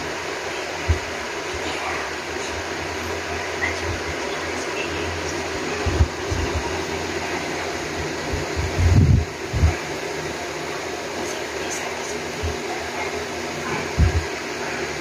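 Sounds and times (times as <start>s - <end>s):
fan whirring: 0.0s - 15.0s.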